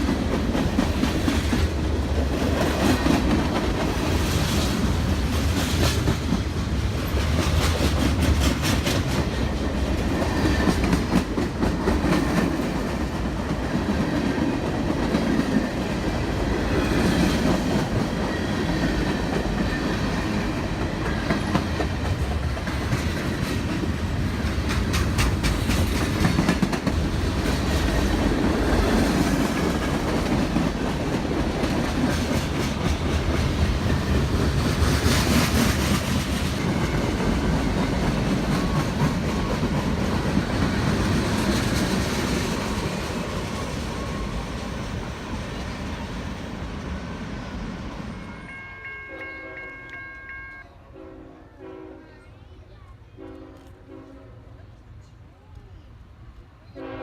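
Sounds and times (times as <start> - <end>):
wheels clacking over rail joints: 0.0 - 45.8
train wheels rumbling on rail: 0.0 - 52.2.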